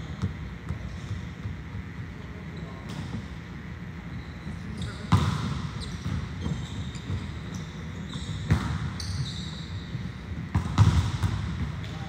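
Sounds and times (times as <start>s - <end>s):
shoes squeaking on court: 0.0s - 12.0s.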